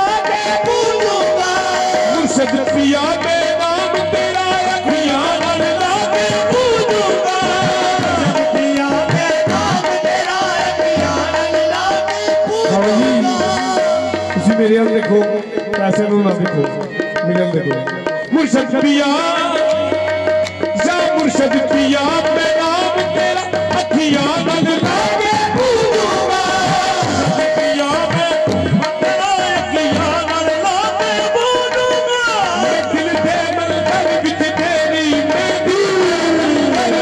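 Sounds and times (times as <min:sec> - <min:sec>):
people singing: 0:00.0 - 0:15.7, 0:18.3 - 0:37.0
hand drum rhythm: 0:00.0 - 0:37.0
harmonium drone and melody: 0:00.0 - 0:37.0.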